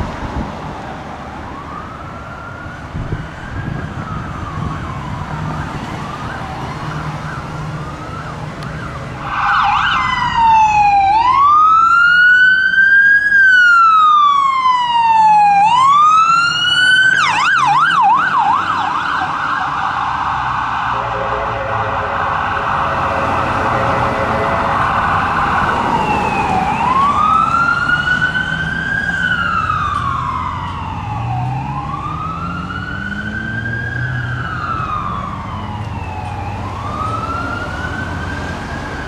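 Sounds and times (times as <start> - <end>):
traffic noise: 0.0 - 39.0
electronic siren wailing: 1.5 - 39.0.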